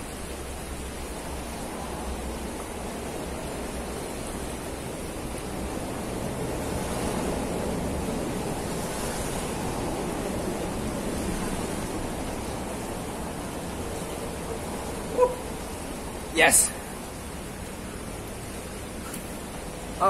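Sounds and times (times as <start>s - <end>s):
fast-flowing river rushing: 0.0s - 20.0s.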